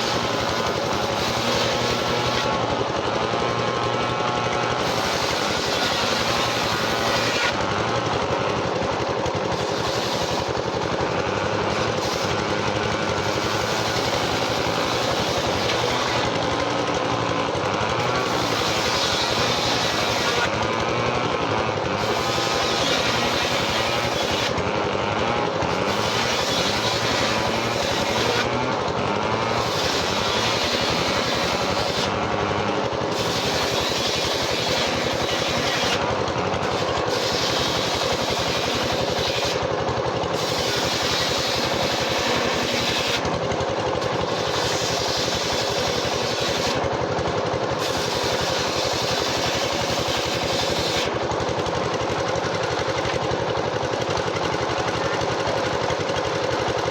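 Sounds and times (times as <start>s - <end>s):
sawmill machinery din with rattle: 0.0s - 56.9s.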